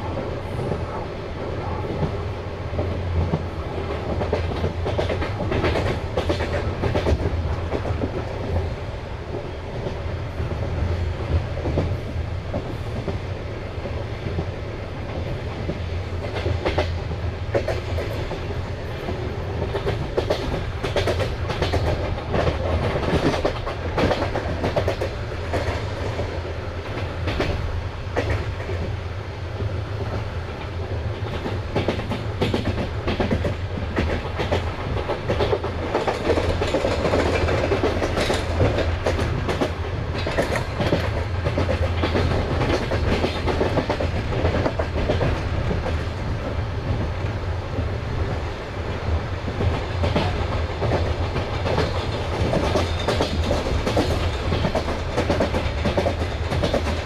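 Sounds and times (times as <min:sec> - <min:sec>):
train rumble: 0:00.0 - 0:57.0
wheels clicking over rail joints: 0:02.8 - 0:08.7, 0:15.1 - 0:29.0, 0:30.1 - 0:57.0.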